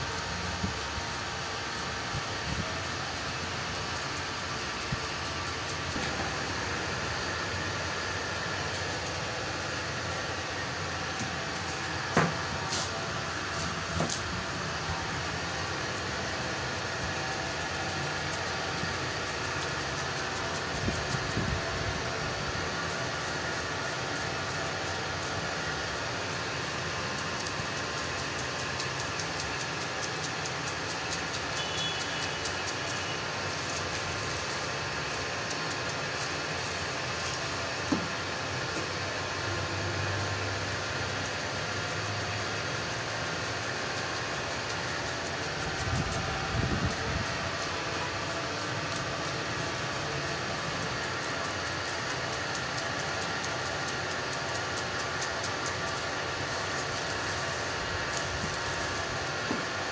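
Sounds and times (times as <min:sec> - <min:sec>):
noisy street background: 0:00.0 - 0:59.9.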